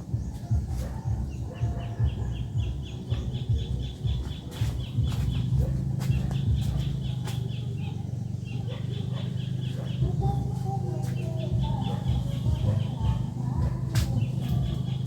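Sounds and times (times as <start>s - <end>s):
chickens clucking: 0.0s - 15.0s
rapid high chirping: 0.0s - 15.0s.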